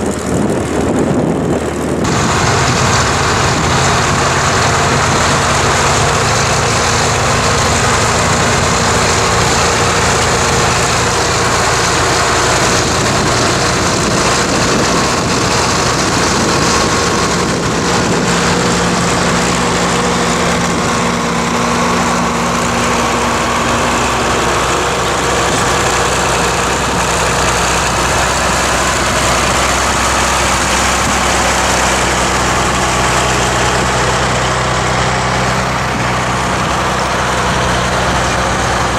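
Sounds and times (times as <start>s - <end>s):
diesel tractor engine under load: 0.0s - 38.9s
wind noise on microphone: 0.0s - 38.9s.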